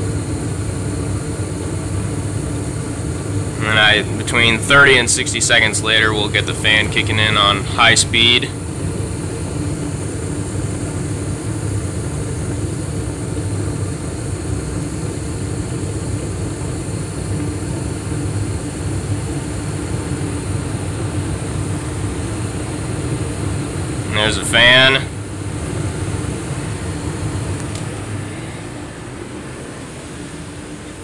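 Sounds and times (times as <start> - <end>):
gas furnace humming: 0.0 - 31.0.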